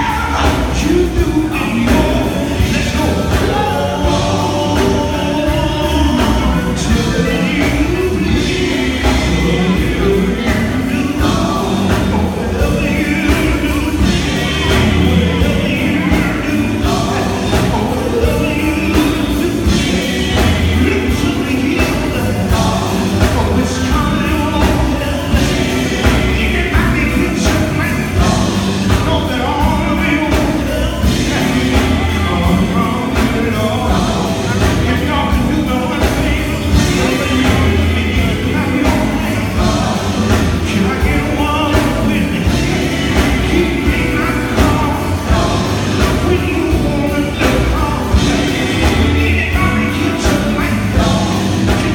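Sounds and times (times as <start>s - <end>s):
drum kit steady beat: 0.0s - 51.9s
electric guitar: 0.0s - 51.9s
person singing into a microphone: 0.0s - 51.9s.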